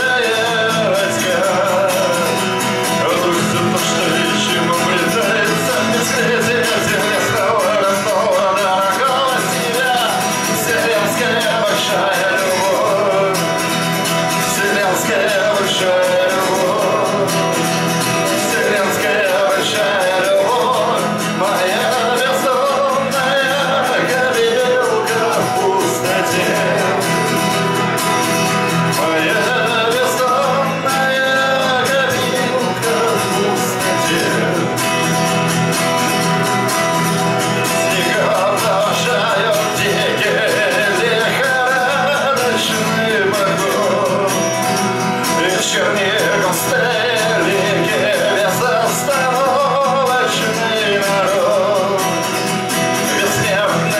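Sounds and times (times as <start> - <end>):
acoustic guitar strumming: 0.0 - 53.9
man singing: 0.0 - 53.9.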